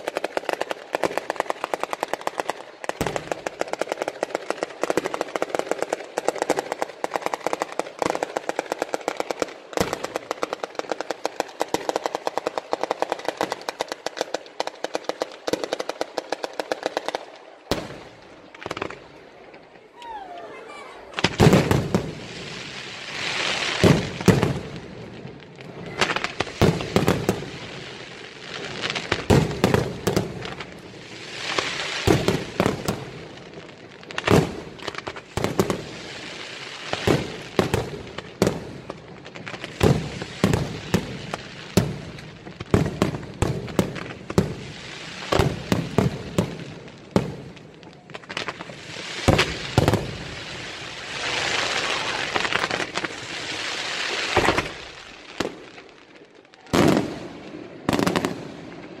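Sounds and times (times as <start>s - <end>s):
firework bangs: 0.0s - 59.0s
hissing rush of fireworks: 0.0s - 59.0s.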